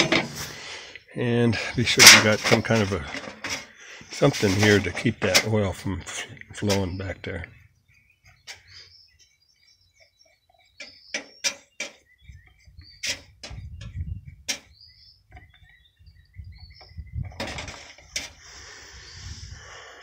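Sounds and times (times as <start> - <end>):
birds chirping faintly: 0.4 - 20.0.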